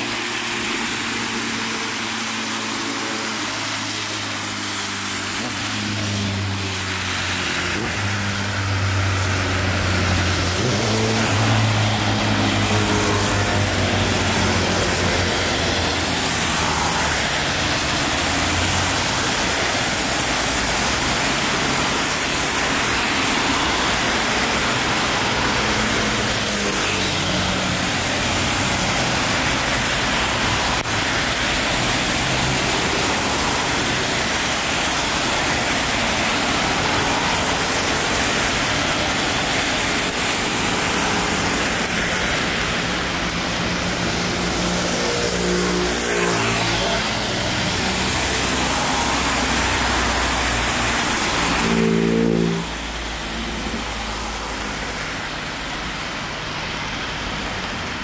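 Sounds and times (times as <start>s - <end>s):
car tyres on wet road: 0.0s - 58.0s
rain hissing: 0.0s - 58.0s.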